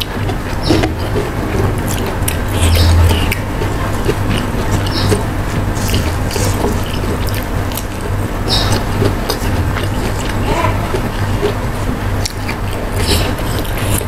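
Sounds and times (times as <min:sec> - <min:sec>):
fingers rubbing food on stone: 0:00.0 - 0:14.0
steady low hum: 0:00.0 - 0:14.0
wet chewing and mouth clicks: 0:00.0 - 0:14.0.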